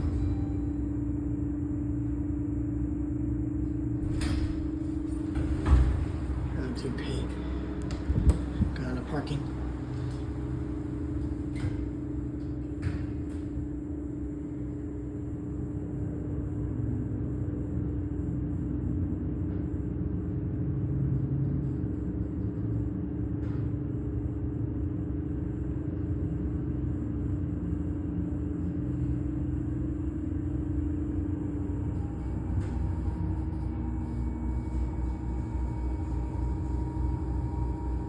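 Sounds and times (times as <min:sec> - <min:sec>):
elevator pump motor hum: 0:00.0 - 0:38.0
low rumble of rising elevator: 0:00.0 - 0:38.0.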